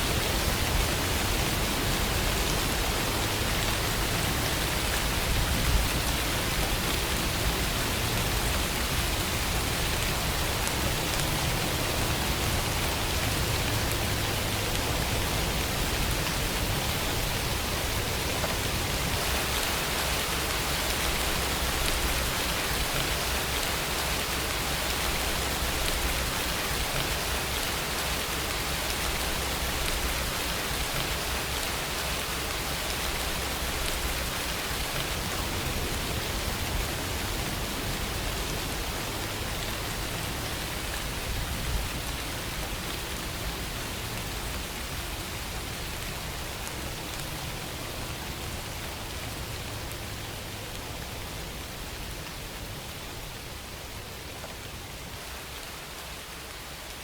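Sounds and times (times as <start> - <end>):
steady rainfall hiss: 0.0 - 57.0.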